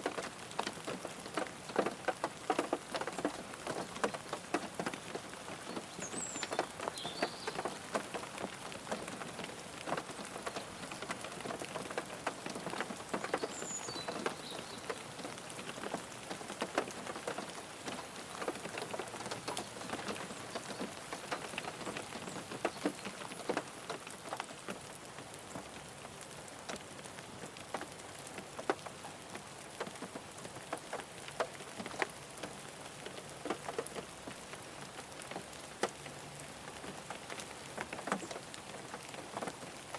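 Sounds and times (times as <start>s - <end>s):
rain drops ticking on car: 0.0s - 39.9s.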